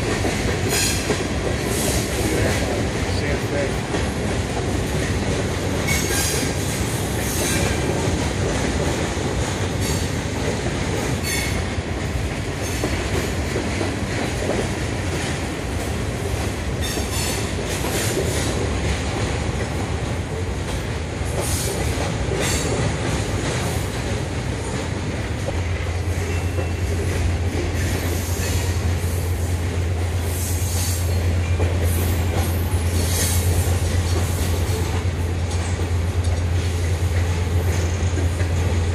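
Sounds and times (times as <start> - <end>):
train wheels rumbling on rail: 0.0 - 38.9
wheels clacking over rail joints: 0.0 - 38.9.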